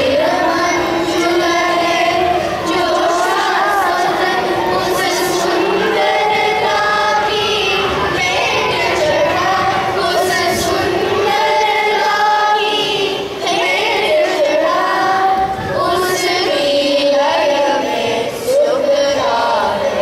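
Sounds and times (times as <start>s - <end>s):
children's chorus singing in unison: 0.0s - 20.0s.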